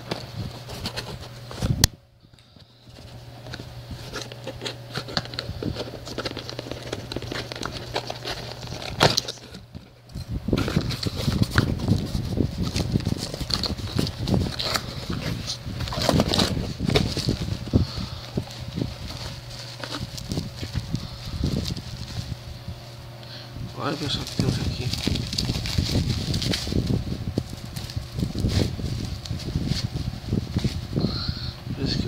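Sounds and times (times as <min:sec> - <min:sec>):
cardboard box tearing and rustling: 0:00.0 - 0:01.8, 0:02.9 - 0:22.7, 0:23.8 - 0:30.8
fan humming: 0:00.0 - 0:32.0.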